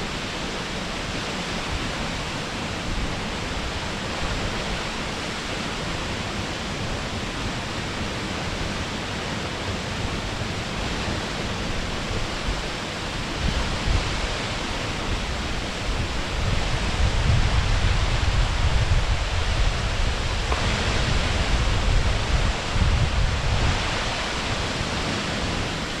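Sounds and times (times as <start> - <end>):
deep water rumble: 0.0 - 26.0
waterfall rushing: 0.0 - 26.0.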